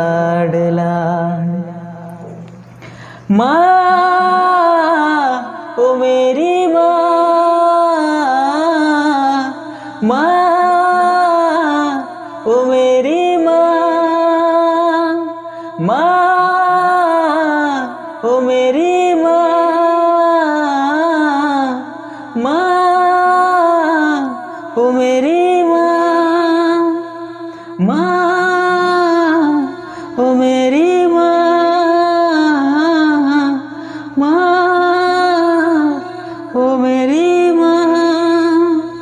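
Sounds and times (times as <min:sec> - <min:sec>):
man singing: 0:03.3 - 0:27.1, 0:27.8 - 0:39.0.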